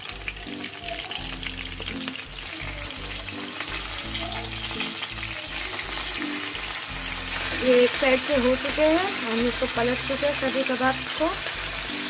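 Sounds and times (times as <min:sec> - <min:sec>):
background music: 0:00.0 - 0:12.0
kababs sizzling in hot oil: 0:00.0 - 0:12.0.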